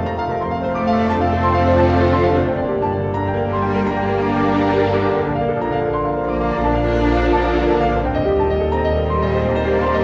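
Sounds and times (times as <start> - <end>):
slow sad music with piano: 0.0 - 10.0.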